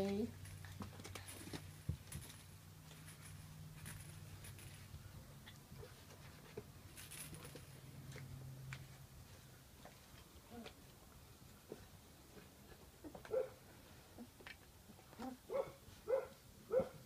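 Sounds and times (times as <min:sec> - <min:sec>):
puppies clicking and scuffling: 0:00.0 - 0:16.9.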